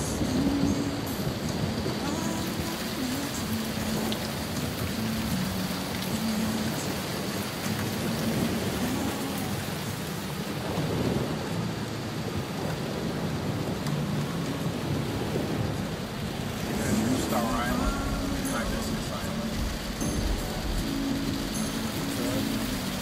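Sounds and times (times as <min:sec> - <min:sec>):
heavy rain on a car: 0:00.0 - 0:23.0
tyres hissing on wet road: 0:00.0 - 0:23.0.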